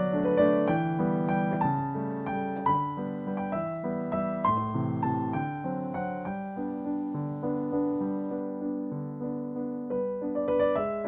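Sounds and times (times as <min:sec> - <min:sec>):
gentle solo piano: 0:00.0 - 0:11.0.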